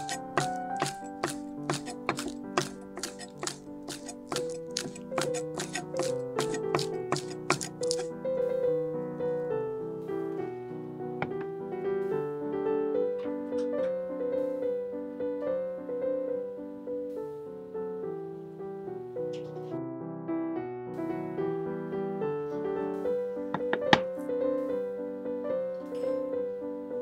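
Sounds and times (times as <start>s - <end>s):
piano melody: 0.0s - 27.0s.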